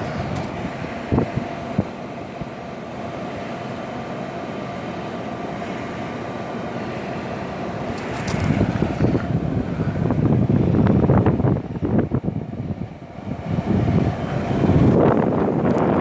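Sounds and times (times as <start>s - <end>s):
window air conditioner humming: 0.0s - 16.0s.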